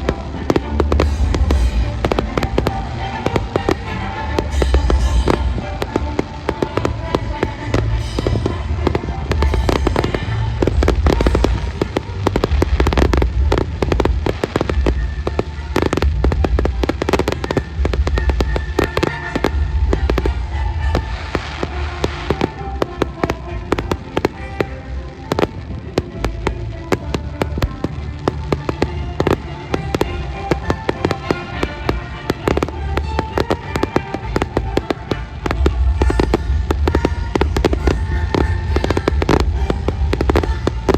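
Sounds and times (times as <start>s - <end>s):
deep rumble: 0.0s - 40.9s
fireworks bangs and crackles: 0.0s - 40.9s
music with steady notes: 0.0s - 40.9s.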